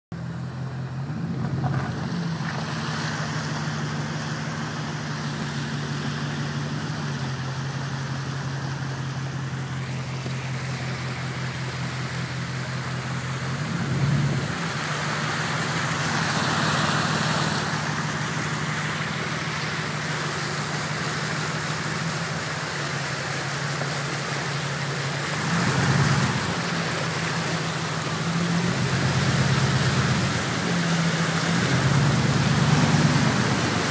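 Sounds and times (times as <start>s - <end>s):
truck engine running: 0.1s - 33.9s
water rushing against truck: 0.2s - 33.9s.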